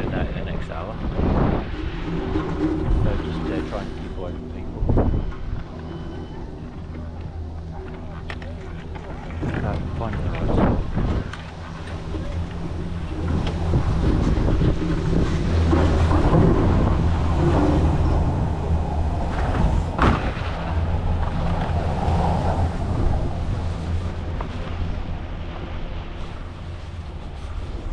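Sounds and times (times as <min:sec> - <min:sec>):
steady low hum: 0:00.0 - 0:27.9
wind buffeting microphone: 0:00.0 - 0:27.9.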